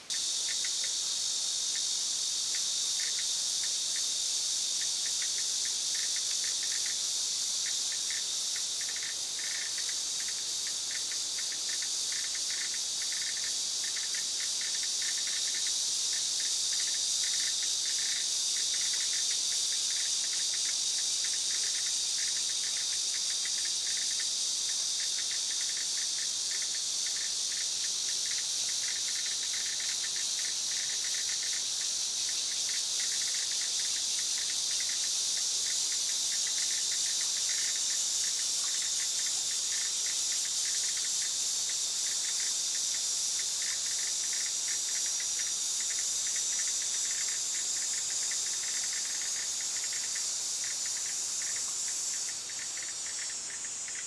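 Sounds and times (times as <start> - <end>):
cicada buzzing: 0.0 - 54.0.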